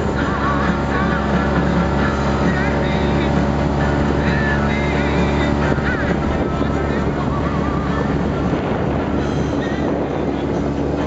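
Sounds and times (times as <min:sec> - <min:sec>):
vehicle engine running: 0:00.0 - 0:11.0
wind buffeting microphone: 0:00.0 - 0:11.0.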